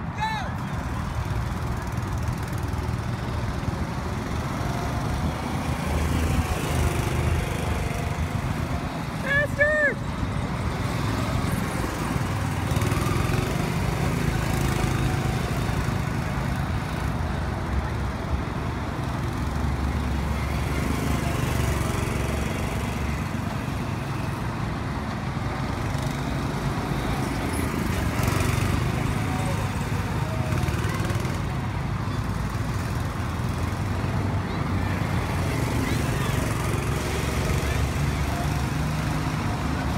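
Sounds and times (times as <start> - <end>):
go-kart engines running: 0.0 - 39.9.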